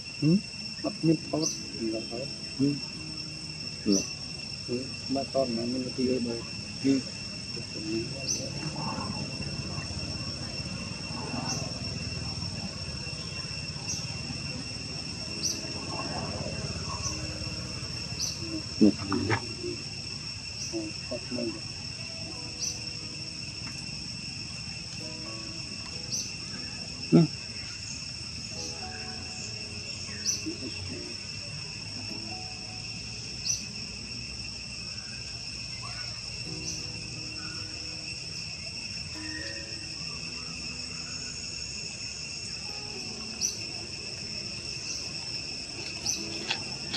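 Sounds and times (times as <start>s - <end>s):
insect chorus: 0.0s - 46.9s.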